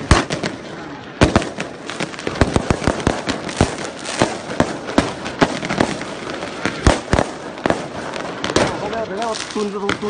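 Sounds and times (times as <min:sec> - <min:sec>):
fireworks bangs and cracks: 0:00.0 - 0:10.0.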